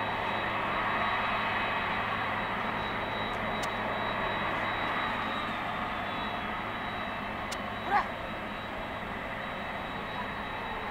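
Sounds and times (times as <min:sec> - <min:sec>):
jet engines idling: 0:00.0 - 0:10.9.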